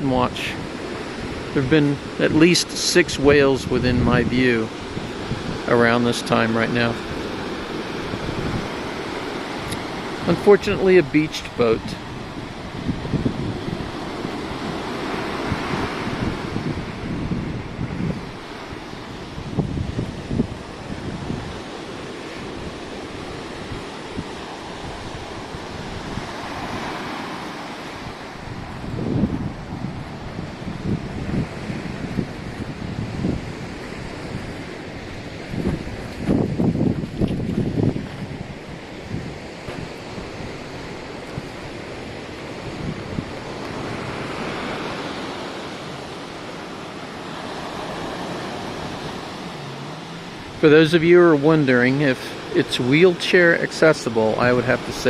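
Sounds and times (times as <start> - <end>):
wind on microphone: 0.0 - 53.5
ocean surf washing onto beach: 0.0 - 55.0.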